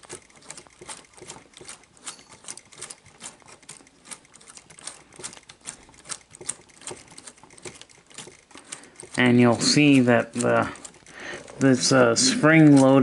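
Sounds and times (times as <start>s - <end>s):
plastic gears clicking: 0.0s - 13.0s.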